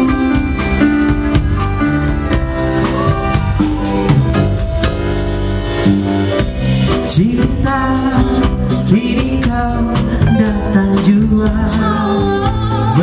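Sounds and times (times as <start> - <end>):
live pop band playing: 0.0 - 13.0
steady drum beat: 0.0 - 13.0.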